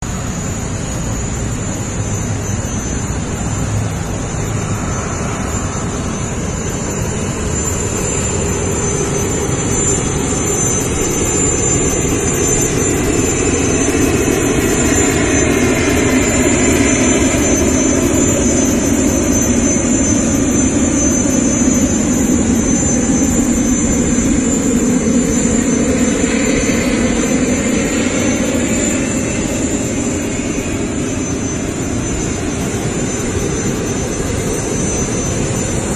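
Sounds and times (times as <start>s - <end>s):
airplane engine whine: 0.0s - 35.9s.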